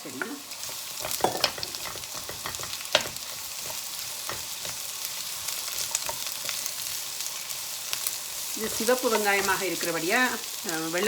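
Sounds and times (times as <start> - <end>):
onion sizzling in oil: 0.0 - 11.0
utensil stirring in pan: 0.0 - 11.0.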